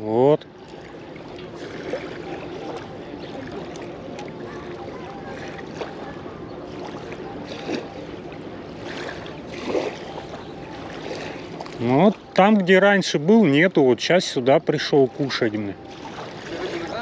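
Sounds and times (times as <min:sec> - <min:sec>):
waves lapping at shore: 0:00.0 - 0:17.0
soft splashes: 0:00.4 - 0:17.0.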